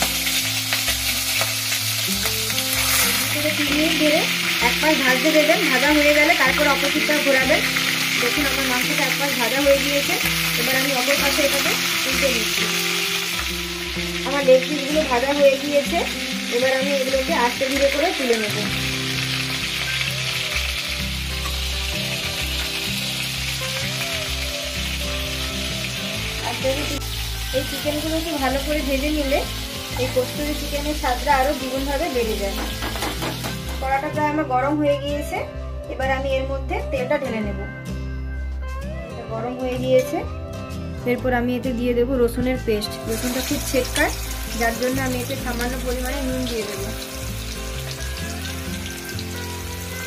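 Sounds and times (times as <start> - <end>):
chicken sizzling in oil: 0.0 - 34.1, 43.0 - 50.0
background music: 0.0 - 50.0.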